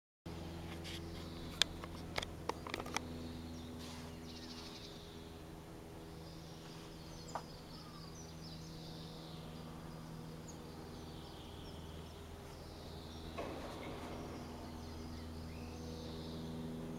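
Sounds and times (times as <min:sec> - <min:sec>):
propeller plane engine drone: 0:00.3 - 0:16.9.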